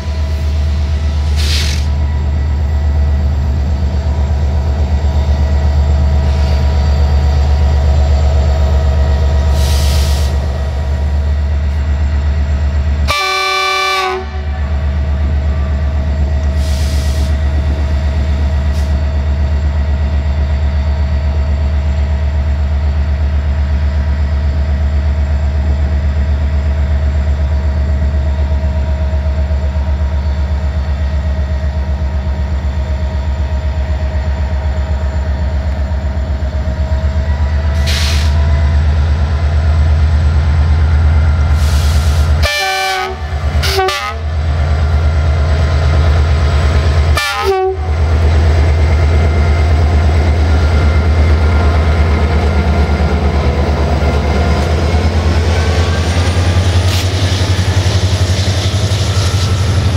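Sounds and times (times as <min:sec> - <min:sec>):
diesel locomotive droning: 0:00.0 - 0:59.9.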